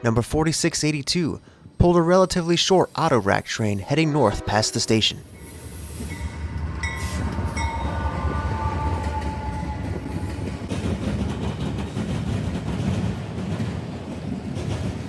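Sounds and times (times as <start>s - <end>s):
freight train rumbling past: 2.4s - 15.0s.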